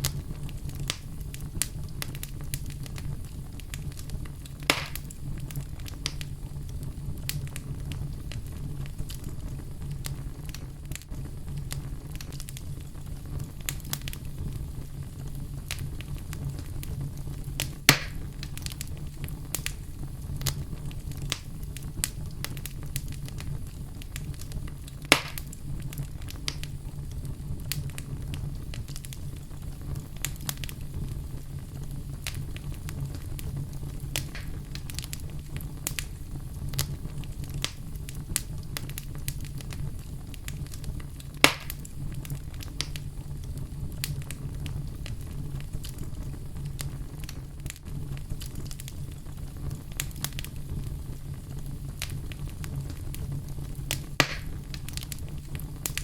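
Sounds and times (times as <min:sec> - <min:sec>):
fireplace fire crackling: 0:00.0 - 0:56.0
loud fire pops: 0:00.0 - 0:56.0
low steady hum: 0:00.0 - 0:56.0.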